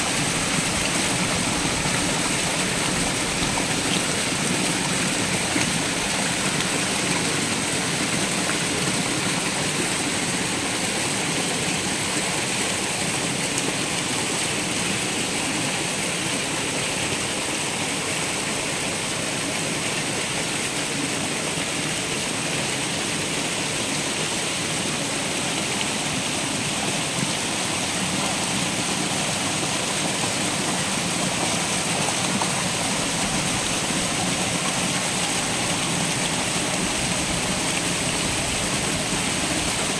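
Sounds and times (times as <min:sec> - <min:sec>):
fish splashing and churning water: 0:00.0 - 0:39.9.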